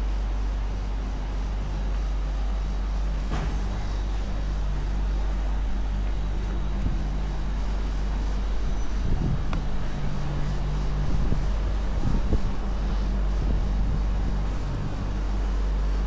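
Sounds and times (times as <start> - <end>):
low outdoor rumble and hum: 0.0 - 16.0.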